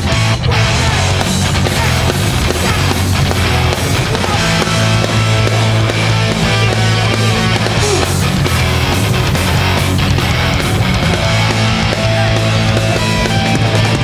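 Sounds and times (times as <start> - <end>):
loud punk band playing: 0.0 - 14.0.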